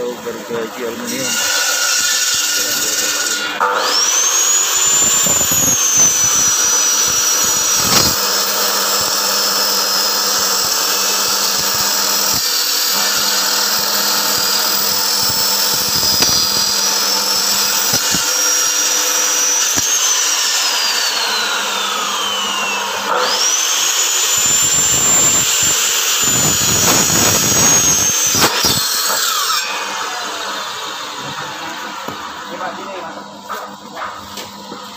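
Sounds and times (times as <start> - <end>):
electric saw whining: 0.0 - 34.9.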